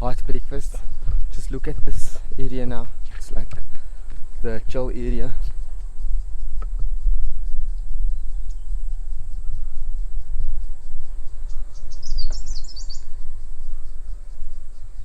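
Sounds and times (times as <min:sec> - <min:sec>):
bird chirping: 0:00.0 - 0:15.0
crickets calling: 0:00.0 - 0:15.0
low rumble: 0:00.0 - 0:15.0.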